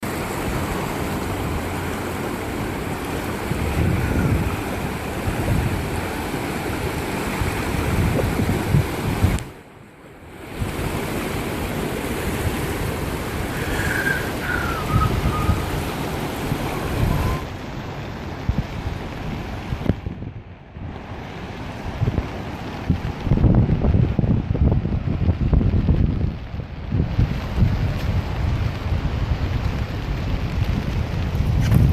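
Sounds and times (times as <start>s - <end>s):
river floodwater rushing: 0.0s - 31.9s
wind buffeting microphone: 0.0s - 31.9s.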